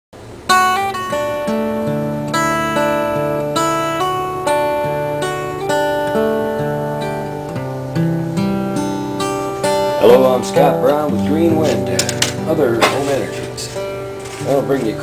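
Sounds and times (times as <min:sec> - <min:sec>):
acoustic guitar chords: 0:00.2 - 0:15.0.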